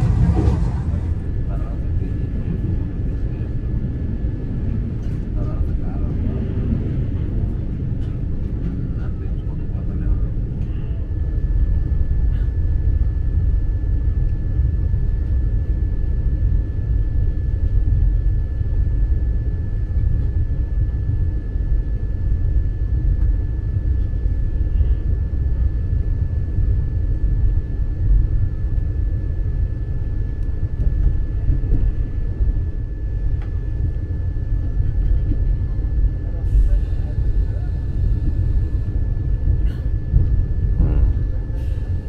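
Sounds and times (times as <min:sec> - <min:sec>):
electric train rumbling: 0:00.0 - 0:42.0.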